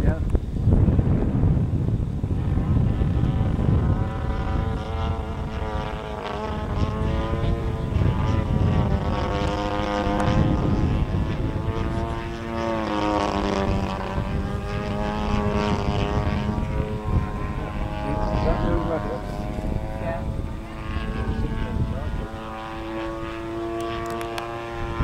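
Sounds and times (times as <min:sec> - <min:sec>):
model plane engine drone: 0:00.0 - 0:25.0.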